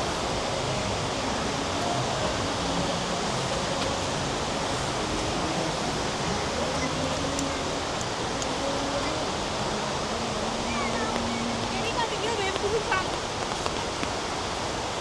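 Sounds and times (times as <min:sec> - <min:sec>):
heavy rain falling: 0:00.0 - 0:15.0
waterfall roaring: 0:00.0 - 0:15.0.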